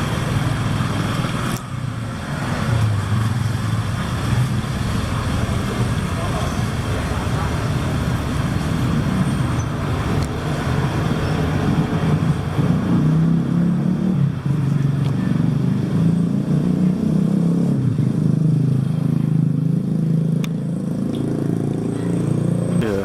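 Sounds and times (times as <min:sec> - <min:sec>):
car engines passing: 0:00.0 - 0:23.0
motorbike engines passing: 0:00.0 - 0:23.0.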